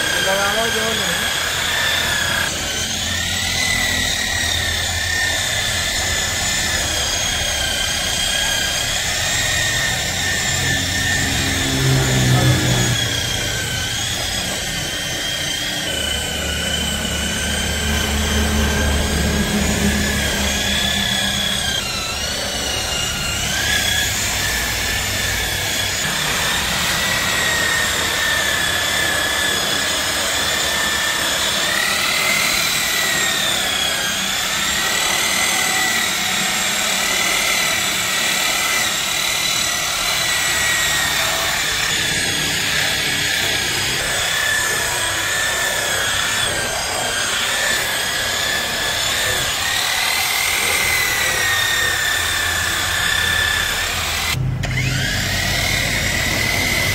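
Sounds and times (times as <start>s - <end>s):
polishing machine motor whine: 0.0s - 56.9s.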